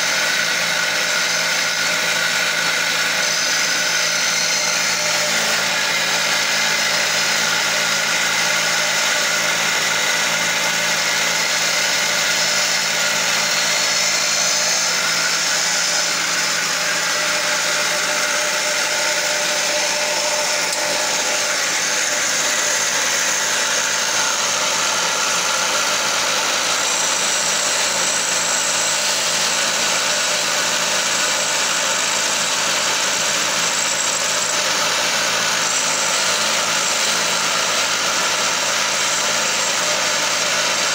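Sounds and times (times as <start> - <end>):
chisel scraping spinning wood: 0.0 - 40.9
wood lathe humming: 0.0 - 40.9.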